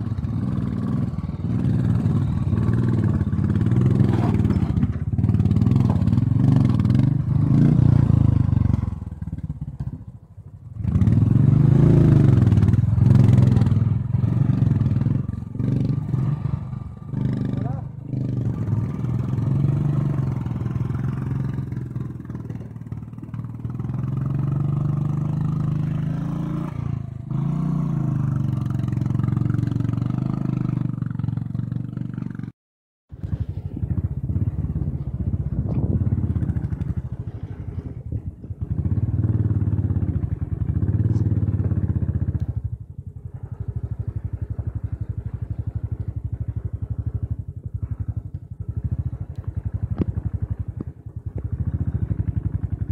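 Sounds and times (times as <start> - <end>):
motorcycle engine revving: 0.0 - 32.5, 33.1 - 52.9.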